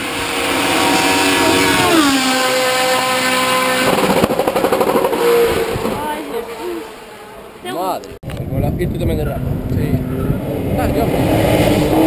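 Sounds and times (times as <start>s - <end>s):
race car engine at high revs: 0.0s - 7.7s, 9.4s - 12.0s.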